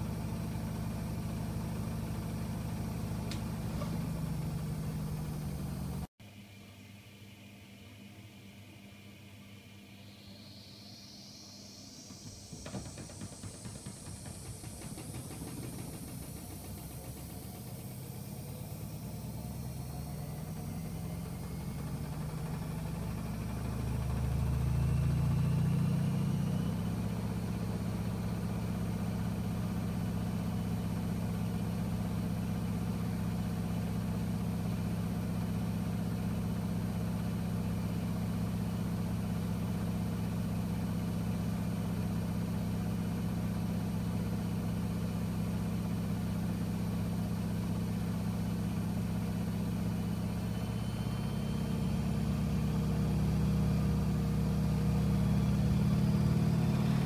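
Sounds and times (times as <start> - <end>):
washing machine low hum: 0.0 - 6.1, 7.2 - 57.0
washing machine motor whine: 0.0 - 6.1, 8.0 - 57.0.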